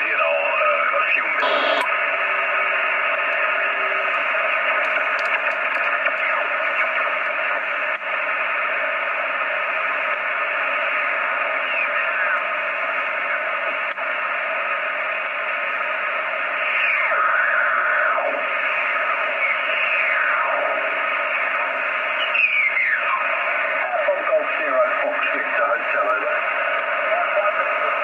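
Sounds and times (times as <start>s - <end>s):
radio band hiss: 0.0s - 28.0s
radio stations sliding in pitch: 0.0s - 28.0s.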